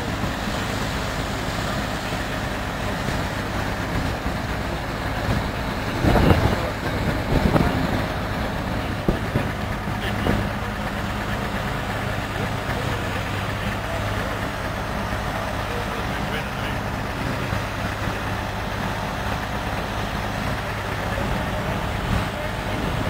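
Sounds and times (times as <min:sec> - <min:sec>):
threshing machine working: 0:00.0 - 0:23.0
tractor engine running: 0:00.0 - 0:23.0.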